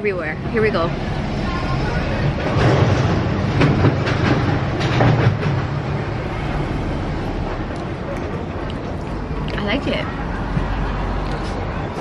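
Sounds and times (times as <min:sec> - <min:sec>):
heavy vehicle passing: 0:00.0 - 0:12.0.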